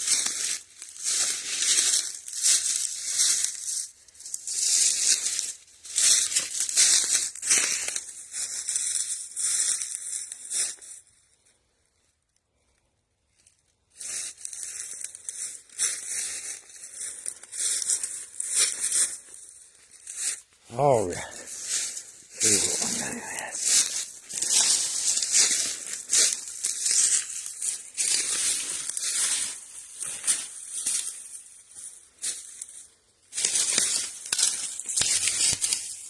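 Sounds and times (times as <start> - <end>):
dry leaves crunching underfoot: 0.0 - 11.1, 13.9 - 36.0.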